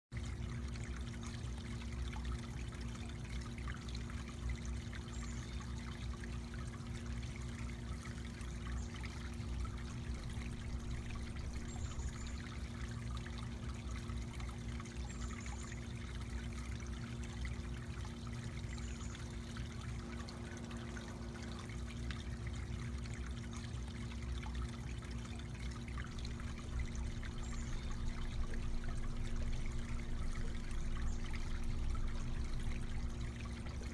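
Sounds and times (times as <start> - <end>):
water trickling over rocks: 0.1 - 33.9
faint low hum: 0.2 - 33.9.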